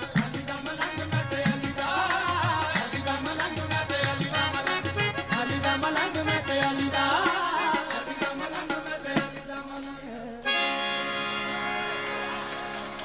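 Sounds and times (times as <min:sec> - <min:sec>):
harmonium: 0:00.0 - 0:13.0.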